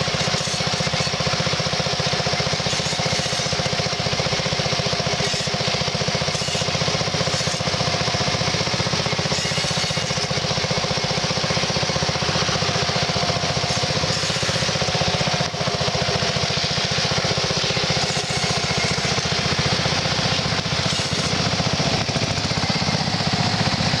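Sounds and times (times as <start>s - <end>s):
tractor engine under load: 0.0s - 24.0s.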